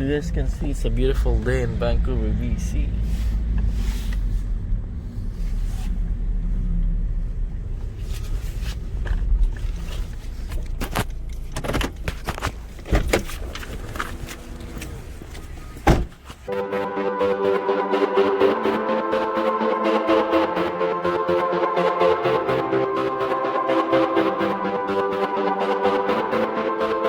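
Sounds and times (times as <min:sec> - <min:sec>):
car rumbling: 0:00.0 - 0:27.0.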